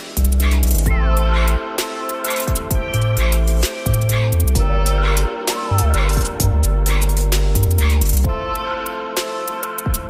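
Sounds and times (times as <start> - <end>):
background music with a beat: 0.0 - 10.0.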